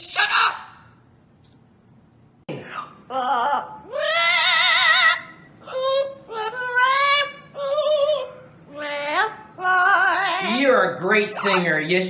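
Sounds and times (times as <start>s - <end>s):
parrot singing: 0.0s - 1.0s, 2.7s - 11.9s.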